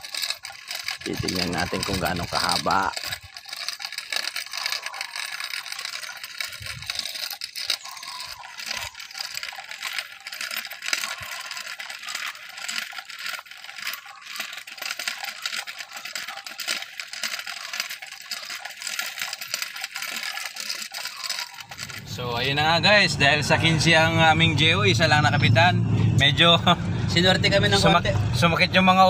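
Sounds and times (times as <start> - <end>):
measuring wheel rolling on concrete: 0.0 - 29.0.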